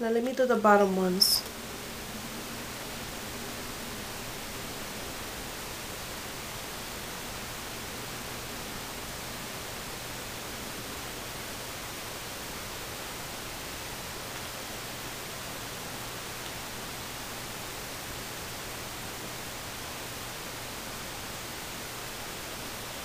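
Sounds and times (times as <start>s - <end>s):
steady hiss: 0.1s - 23.0s.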